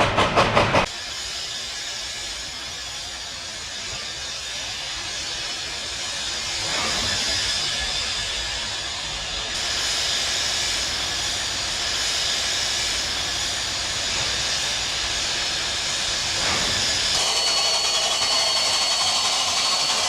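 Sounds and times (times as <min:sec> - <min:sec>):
train running hiss: 0:00.0 - 0:20.0.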